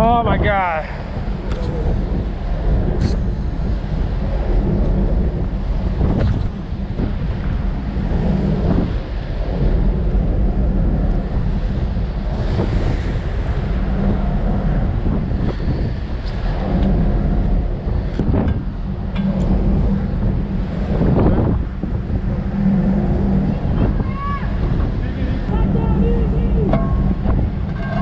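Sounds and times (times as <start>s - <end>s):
sea breaking along ship hull: 0.0s - 28.0s
wind buffeting microphone: 0.0s - 28.0s.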